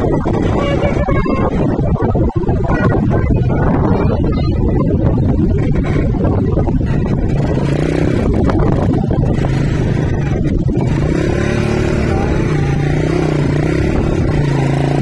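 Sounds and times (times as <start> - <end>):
heavy low rumbling noise: 0.0 - 15.0
vehicle engine humming: 0.0 - 15.0.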